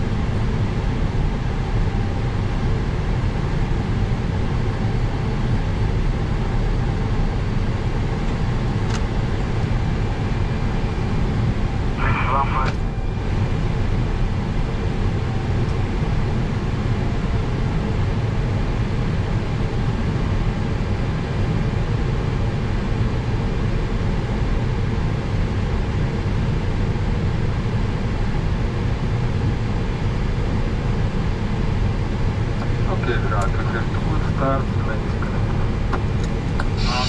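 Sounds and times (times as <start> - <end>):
jet engines droning: 0.0 - 37.0.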